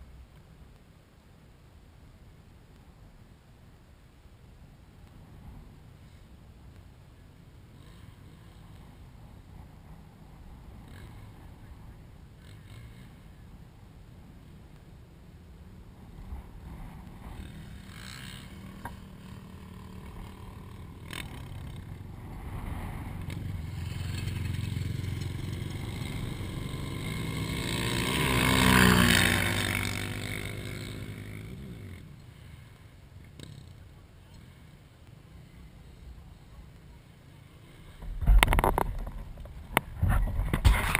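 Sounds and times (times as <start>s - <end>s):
atv engine passing: 4.9s - 40.9s.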